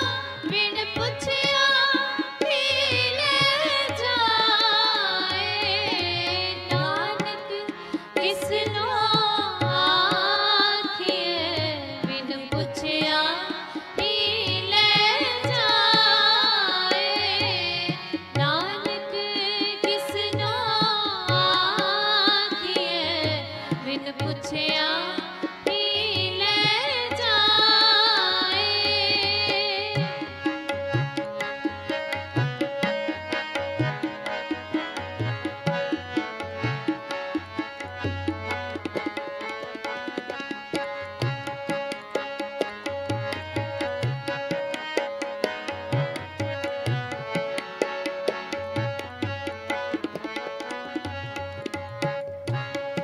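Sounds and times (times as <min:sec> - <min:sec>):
tabla: 0:00.0 - 0:53.0.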